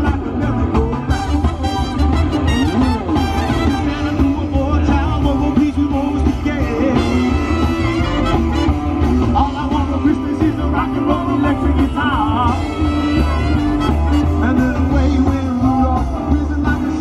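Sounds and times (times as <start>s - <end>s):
person singing: 0.0s - 17.0s
swing band playing rock and roll: 0.0s - 17.0s.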